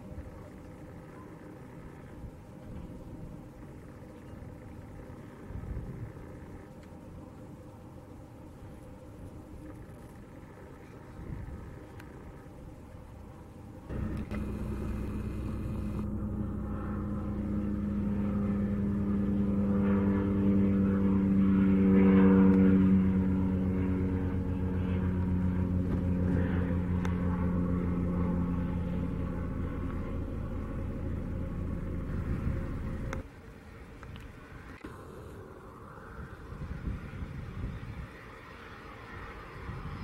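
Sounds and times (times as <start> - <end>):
propeller plane flying overhead: 0.0 - 40.0.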